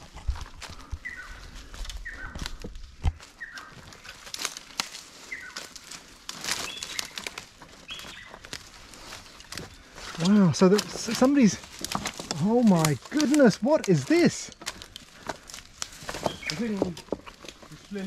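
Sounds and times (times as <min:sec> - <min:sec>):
footsteps on dry leaves: 0:00.0 - 0:18.0
forest bird calling: 0:00.7 - 0:18.0.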